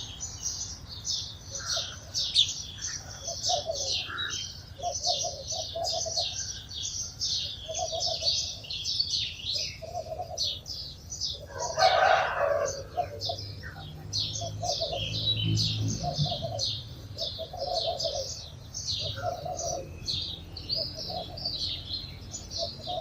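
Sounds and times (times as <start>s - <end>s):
sparrows chirping: 0.0s - 23.0s.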